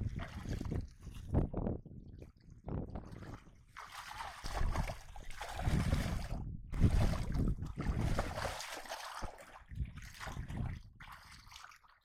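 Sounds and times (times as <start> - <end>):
muddy water sloshing: 0.0 - 12.0.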